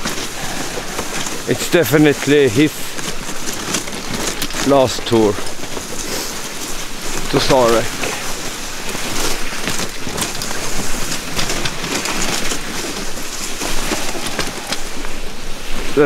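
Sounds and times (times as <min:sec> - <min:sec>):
scrapes and knocks: 0:00.0 - 0:15.3
dog sled rushing over snow: 0:00.0 - 0:16.0.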